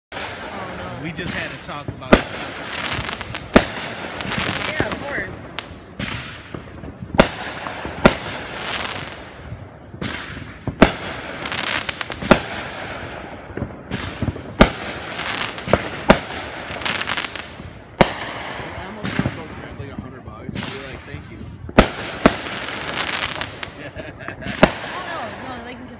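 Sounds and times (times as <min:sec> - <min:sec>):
firework bangs: 0:00.1 - 0:25.9
fireworks hissing and crackling: 0:00.1 - 0:25.9.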